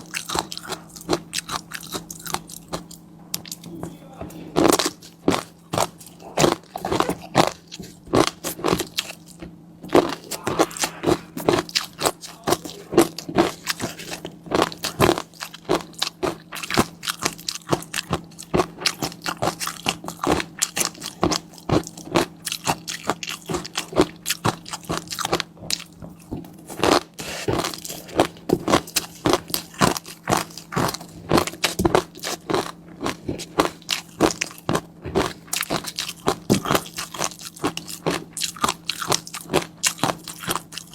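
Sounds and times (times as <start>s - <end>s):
person chewing crunchy food: 0.0s - 40.9s
steady low hum: 0.0s - 40.9s.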